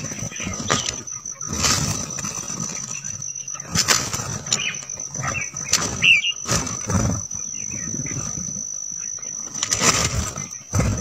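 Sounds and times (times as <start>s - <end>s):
bird chirps: 0.0s - 11.0s
high-pitched whine: 0.0s - 11.0s
wings fluttering: 0.0s - 11.0s.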